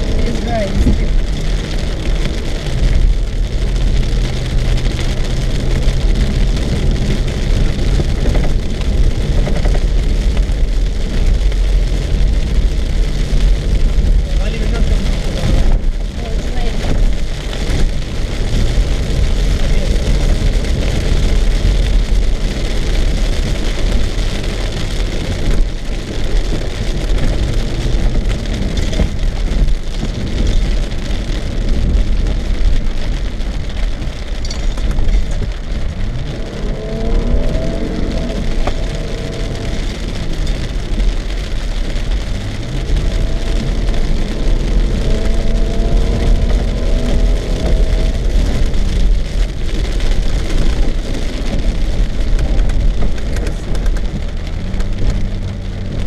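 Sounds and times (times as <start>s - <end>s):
car engine and tyres rumbling: 0.0s - 56.0s
rain hitting windshield: 0.0s - 56.0s.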